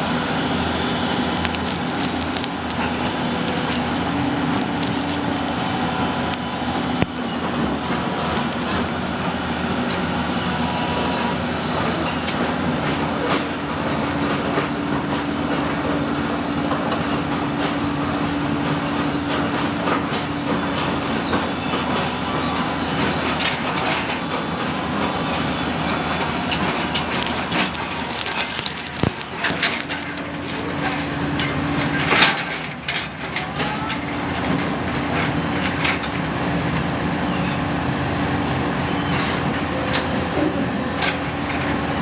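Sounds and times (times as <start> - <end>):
excavator engine running: 0.0 - 42.0
clanking creaking and squeaks: 1.3 - 9.2, 9.9 - 37.8.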